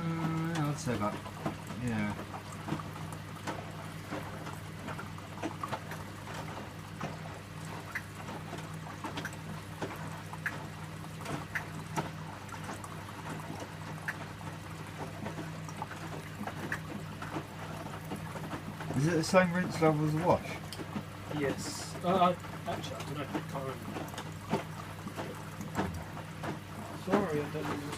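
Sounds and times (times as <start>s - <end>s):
washing machine low hum: 0.0s - 27.9s
water pouring into washing machine: 0.0s - 27.9s
small splashes and clicks: 0.1s - 27.9s.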